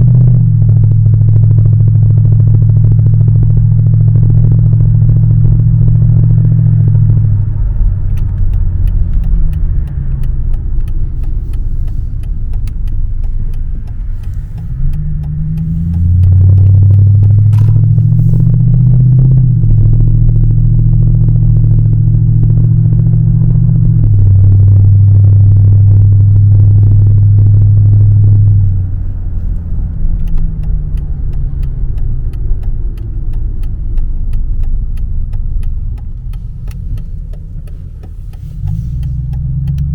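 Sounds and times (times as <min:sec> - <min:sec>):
car engine and exhaust running: 0:00.0 - 0:39.9.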